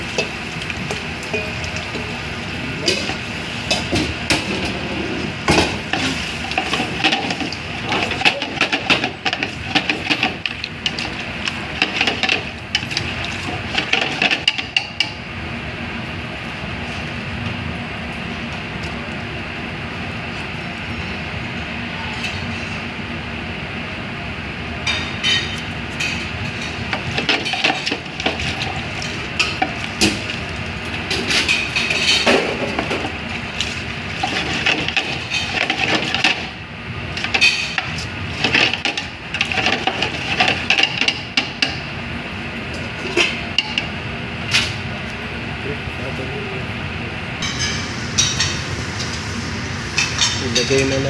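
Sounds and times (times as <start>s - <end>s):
steady background noise: 0.0s - 51.0s.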